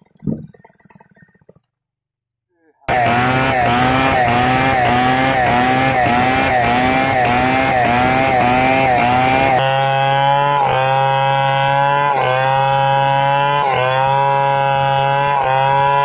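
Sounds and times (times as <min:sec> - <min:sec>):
chainsaw cutting wood: 0:02.9 - 0:16.0.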